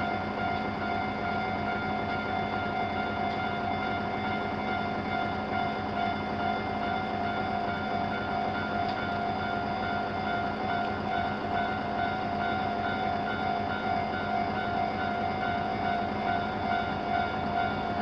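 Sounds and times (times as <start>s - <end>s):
railroad crossing bells ringing: 0.0s - 18.0s.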